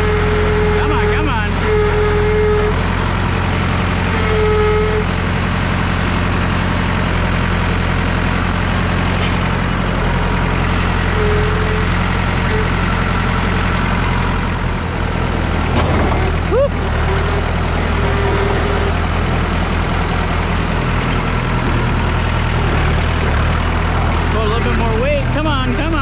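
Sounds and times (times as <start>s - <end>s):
diesel tractor engine running hard: 0.0s - 26.0s.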